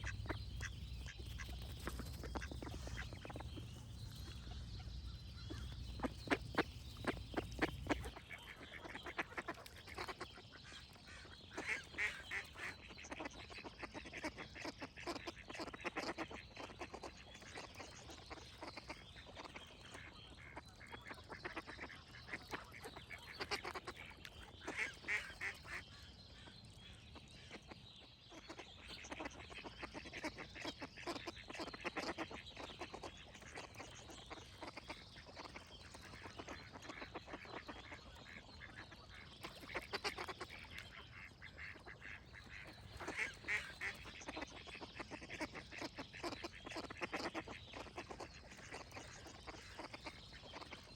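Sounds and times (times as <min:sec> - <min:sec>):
birds singing: 0:00.0 - 0:50.9
ducks quacking: 0:00.0 - 0:50.9.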